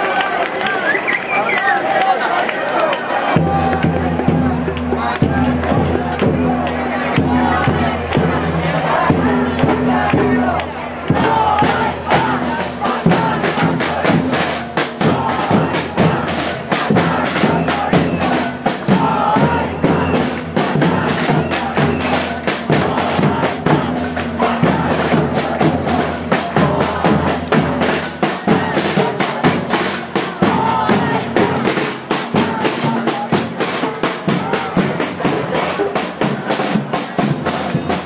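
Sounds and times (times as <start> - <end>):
street percussion band drumming: 3.2 - 38.0.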